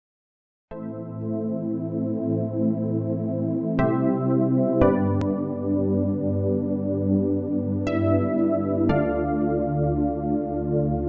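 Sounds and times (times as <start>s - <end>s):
ambient music with held chords: 0.7s - 11.0s.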